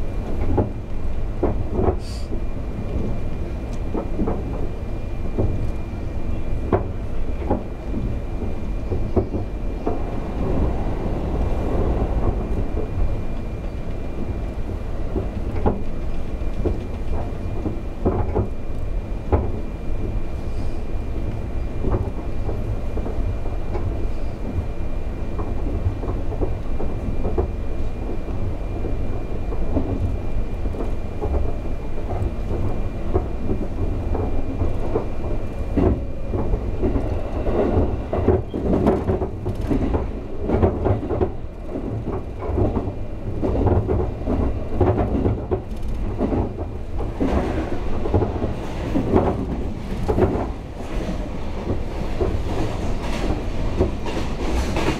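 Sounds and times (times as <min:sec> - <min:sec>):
train cabin rumble: 0:00.0 - 0:54.9.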